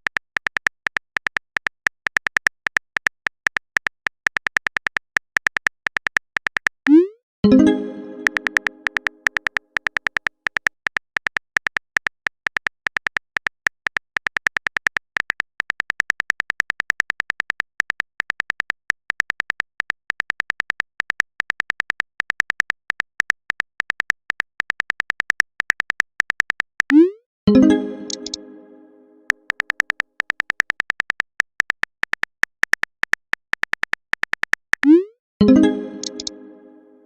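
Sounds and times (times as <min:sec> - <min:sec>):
rapid typing clicks: 0:00.0 - 0:06.8, 0:08.2 - 0:27.0, 0:29.3 - 0:34.9.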